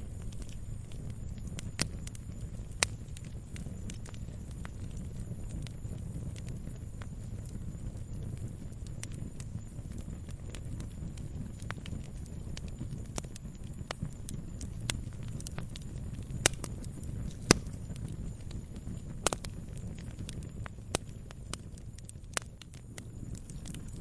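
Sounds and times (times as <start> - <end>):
campfire crackling: 0.0 - 24.0
low fire rumble: 0.0 - 24.0.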